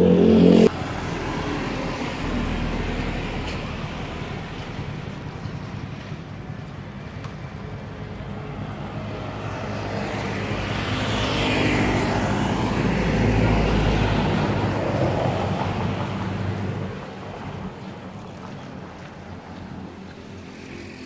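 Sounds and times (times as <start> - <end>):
vehicle passing on road: 0.0 - 21.0.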